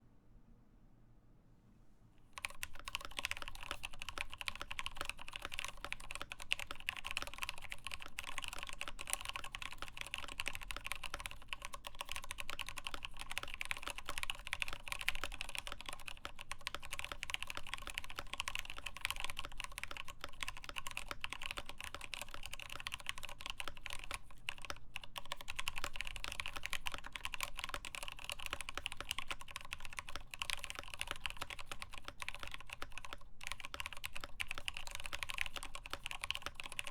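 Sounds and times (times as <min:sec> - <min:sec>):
fast typing on mechanical keyboard: 0:02.4 - 0:36.9.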